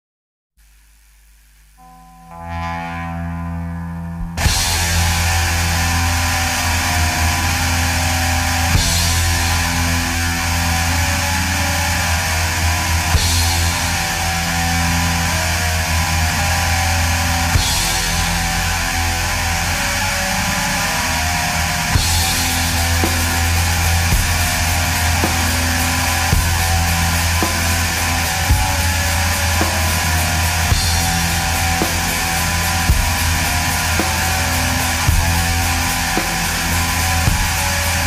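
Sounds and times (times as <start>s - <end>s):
low bass line: 1.8s - 38.0s
rock music with guitar: 2.9s - 38.0s.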